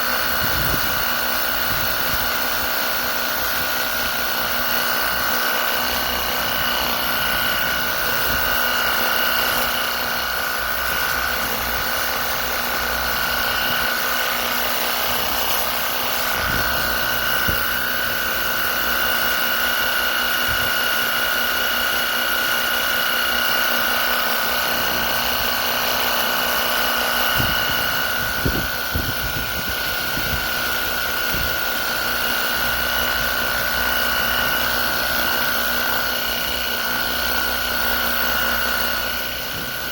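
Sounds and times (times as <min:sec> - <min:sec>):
pressure washer motor whine: 0:00.0 - 0:39.9.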